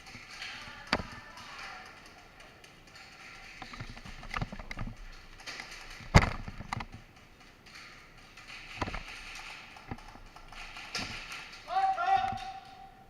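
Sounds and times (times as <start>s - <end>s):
soft clicks and knocks: 0.0s - 11.7s.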